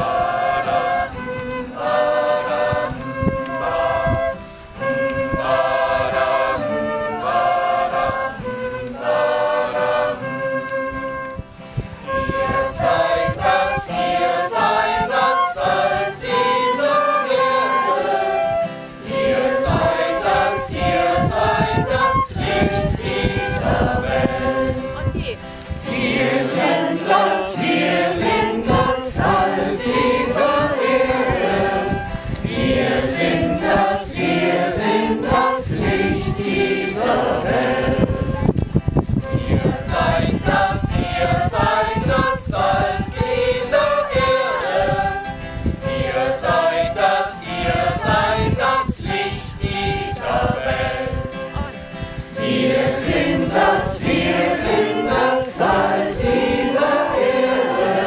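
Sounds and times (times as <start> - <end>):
choir singing a hymn: 0.0 - 11.4, 12.0 - 58.0
acoustic guitar strumming: 0.0 - 58.0.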